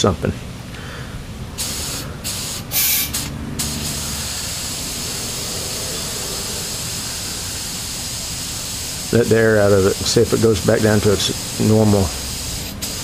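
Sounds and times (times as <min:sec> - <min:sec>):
compressed air hissing from valve: 0:01.5 - 0:13.0.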